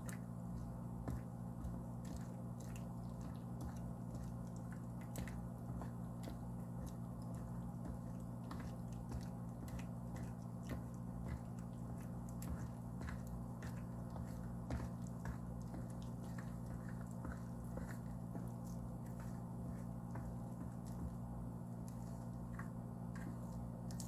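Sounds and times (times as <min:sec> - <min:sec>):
hand squishing wet dough: 0:00.0 - 0:24.0
steady low hum: 0:00.0 - 0:24.0.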